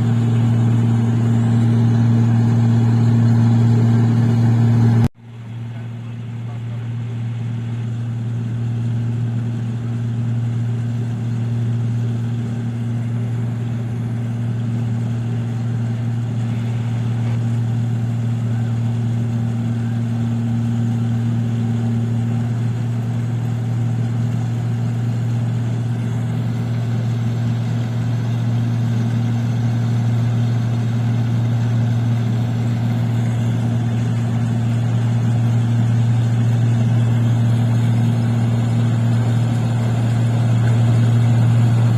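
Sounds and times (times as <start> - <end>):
harvesting machine engine droning: 0.0 - 41.9.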